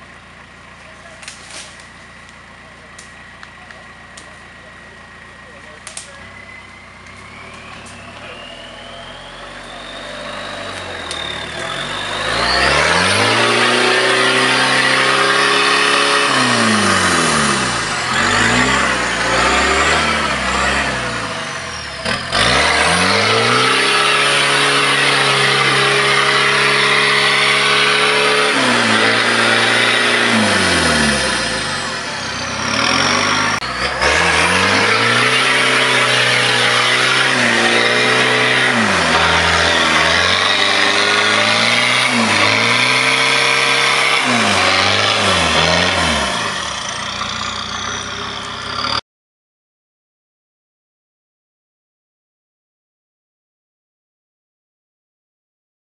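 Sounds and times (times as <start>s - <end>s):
diesel engine revving hard: 0.0s - 49.0s.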